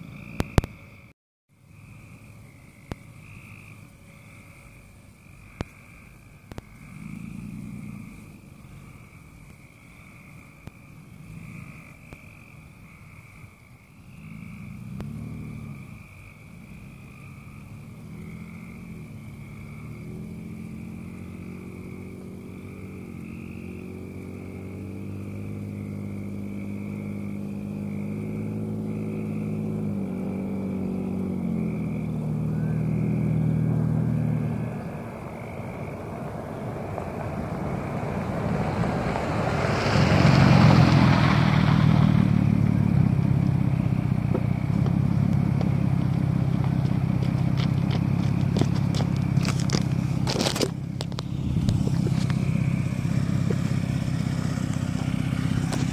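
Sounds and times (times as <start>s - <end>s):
chorus of night creatures: 0.0s - 47.2s, 48.2s - 55.9s
pickup truck engine approaching: 0.0s - 55.9s.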